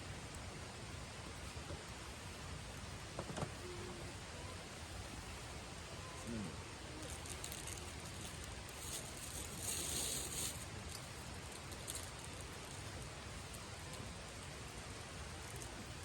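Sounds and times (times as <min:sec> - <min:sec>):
campfire crackling and hissing: 0:00.0 - 0:16.0.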